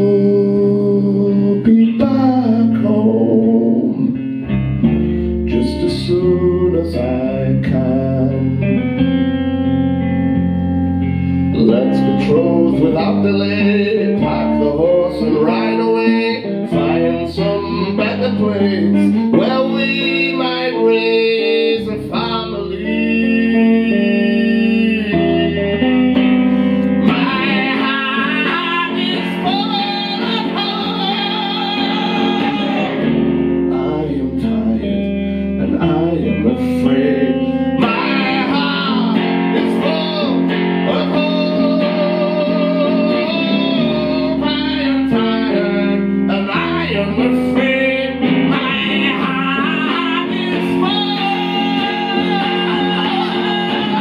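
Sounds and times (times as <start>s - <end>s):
man singing: 0.0s - 4.4s, 5.5s - 9.1s, 11.5s - 54.0s
electric guitar through amplifier: 0.0s - 54.0s.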